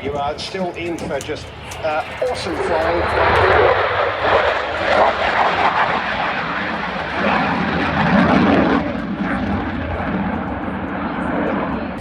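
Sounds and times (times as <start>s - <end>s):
aircraft engines flying over: 0.0s - 12.0s.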